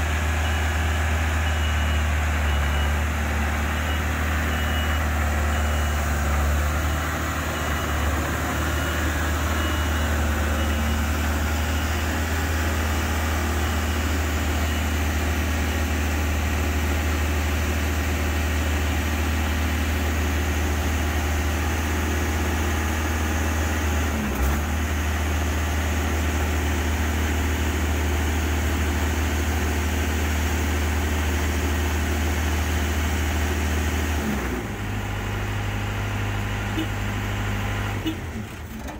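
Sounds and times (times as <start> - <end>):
boom lift engine running: 0.0 - 38.9.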